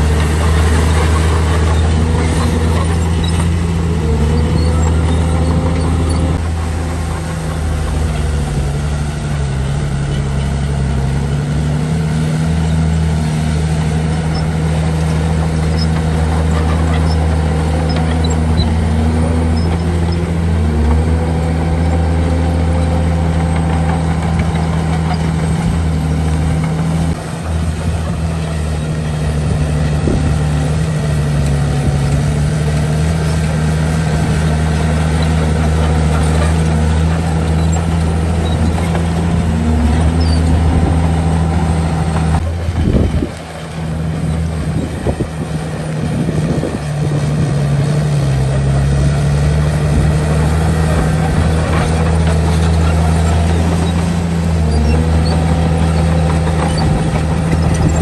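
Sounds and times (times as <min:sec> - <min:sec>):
heavy diesel engine running hard: 0:00.0 - 0:58.0.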